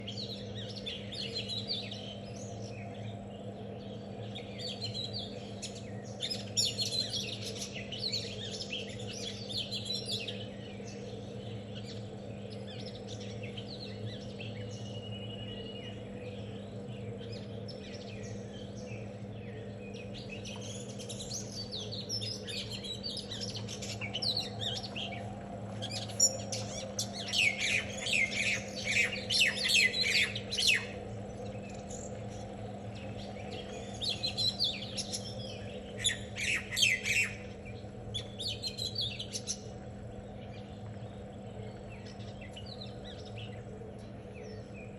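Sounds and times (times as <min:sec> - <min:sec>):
small birds chirping: 0:00.0 - 0:44.9
steady low hum: 0:00.0 - 0:44.9.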